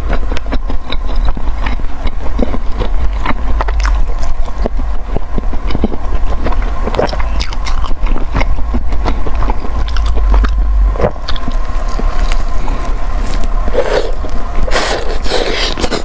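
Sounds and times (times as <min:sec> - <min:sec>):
person chewing food: 0:00.0 - 0:16.0
steady low hum: 0:00.0 - 0:16.0.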